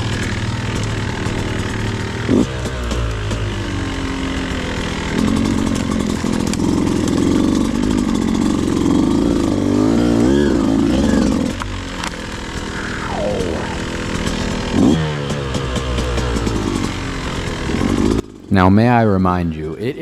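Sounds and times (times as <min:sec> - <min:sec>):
dirt bike engine revving: 0:00.0 - 0:18.5.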